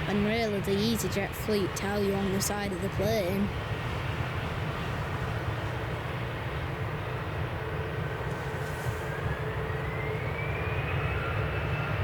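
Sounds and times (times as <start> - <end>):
jet engines rumbling and whining: 0.0 - 12.0.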